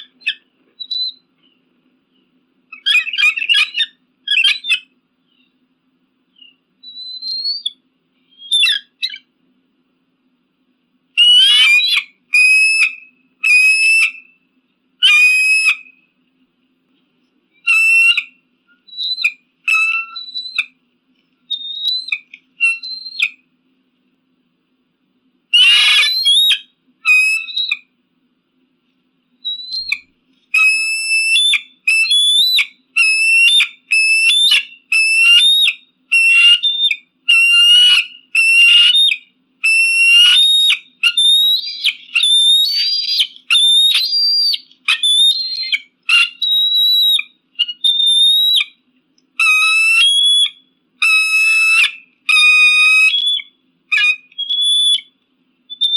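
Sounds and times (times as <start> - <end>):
eagle whistled calls: 0.0 - 1.6, 2.7 - 5.6, 6.3 - 9.3, 11.2 - 14.4, 15.0 - 16.0, 17.5 - 20.8, 21.5 - 23.4, 25.5 - 27.9, 29.4 - 48.8, 49.4 - 55.9.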